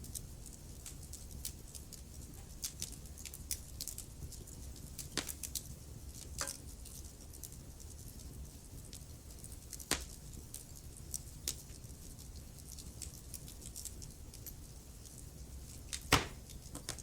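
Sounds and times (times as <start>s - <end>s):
fire popping loudly: 0.0s - 17.0s
low steady rumble: 0.0s - 17.0s
wood fire crackling: 0.0s - 17.0s.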